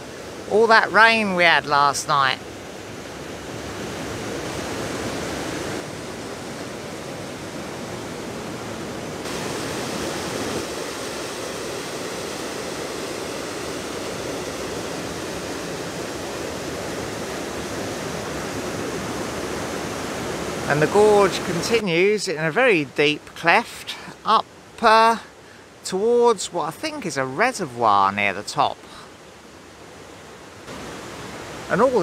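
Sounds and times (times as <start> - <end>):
river roaring through gorge: 0.0 - 25.8, 28.7 - 32.0.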